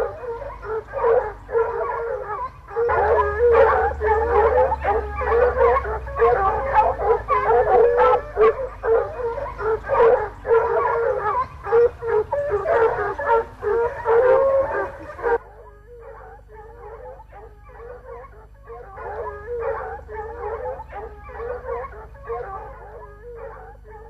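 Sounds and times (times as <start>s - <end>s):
hounds baying: 0.0s - 24.0s.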